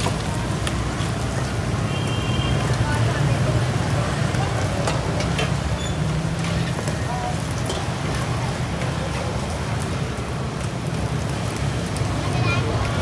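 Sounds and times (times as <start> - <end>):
street background hum: 0.0 - 13.0.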